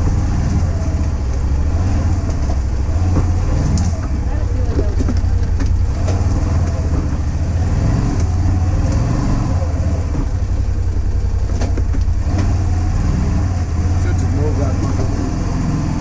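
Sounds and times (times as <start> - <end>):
vehicle knocks and rattles: 0.0 - 12.9
engine droning: 0.0 - 16.0.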